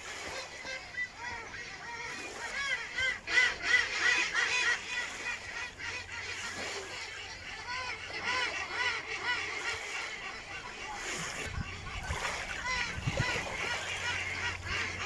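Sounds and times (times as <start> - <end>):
ducks quacking: 0.1 - 15.0.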